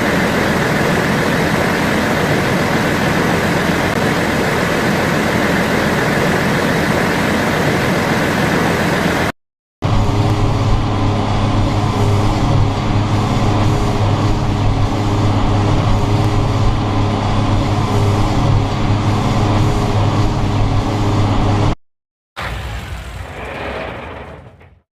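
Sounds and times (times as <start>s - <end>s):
tractor diesel engine running: 0.0s - 21.8s.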